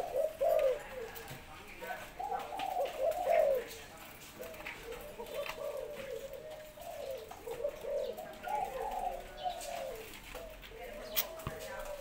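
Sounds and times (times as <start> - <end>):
doves cooing: 0.0 - 12.0.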